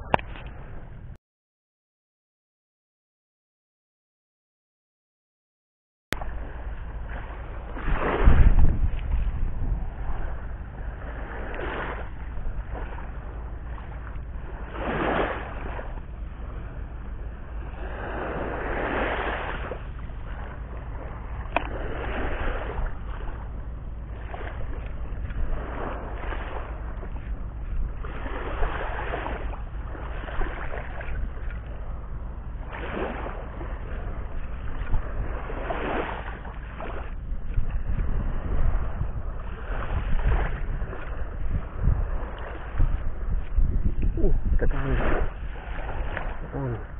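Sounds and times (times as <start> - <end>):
wind rumble on microphone: 0.0 - 1.2, 6.2 - 46.9
small waves washing ashore: 6.2 - 46.9.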